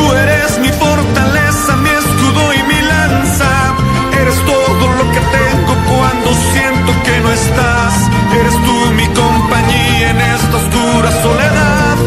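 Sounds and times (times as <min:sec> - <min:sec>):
latin pop instrumental music: 0:00.0 - 0:12.0.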